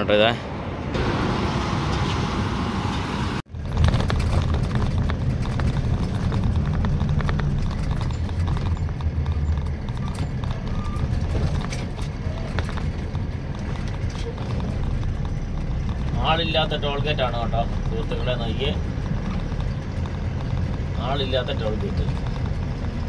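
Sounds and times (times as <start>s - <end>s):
truck engine and road rumble: 0.0s - 23.0s
cab rattling clicks: 3.6s - 23.0s.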